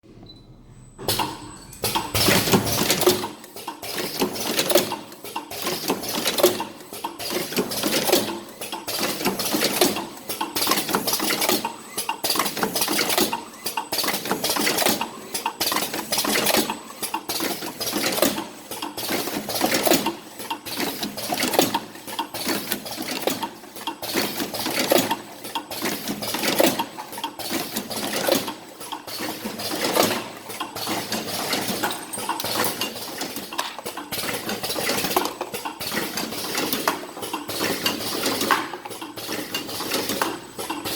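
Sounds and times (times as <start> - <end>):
cartoning machine clattering: 1.1 - 40.9.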